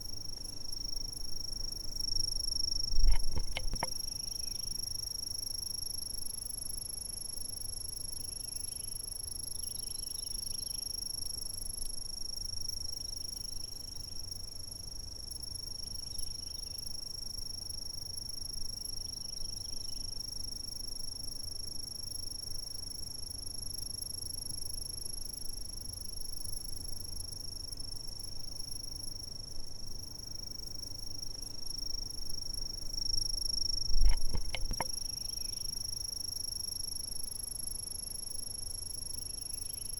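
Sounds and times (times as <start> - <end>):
insects trilling: 0.0 - 14.6, 15.4 - 39.9
faint insect chirps: 0.0 - 39.9.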